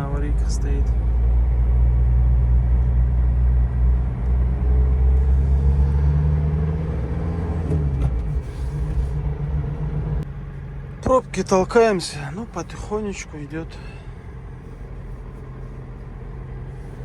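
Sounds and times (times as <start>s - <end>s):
van engine from inside cab: 0.0s - 17.0s.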